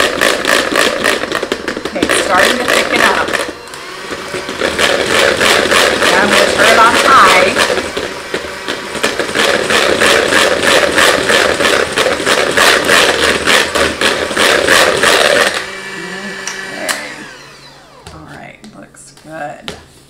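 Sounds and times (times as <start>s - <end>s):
rattle of mixer beaters: 0.0s - 18.2s
electric mixer whipping: 0.0s - 18.7s.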